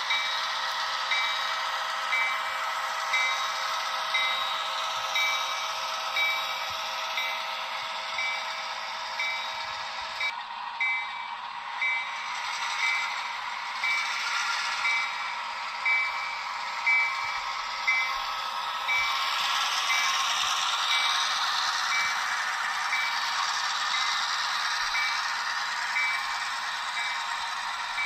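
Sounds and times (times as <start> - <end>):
locomotive bell ringing: 0.0 - 28.0
steady diesel engine sound: 0.0 - 28.0.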